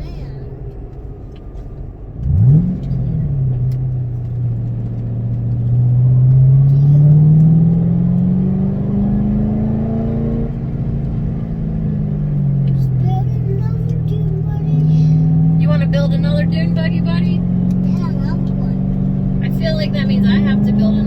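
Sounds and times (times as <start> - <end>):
car accelerating: 0.0 - 21.0
car engine revving: 0.0 - 21.0.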